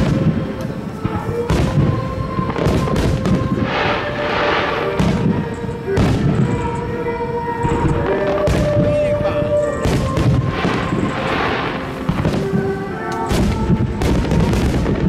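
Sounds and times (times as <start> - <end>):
firework booms: 0.0 - 15.0
hissing crackle: 0.0 - 15.0
song playing: 0.0 - 15.0.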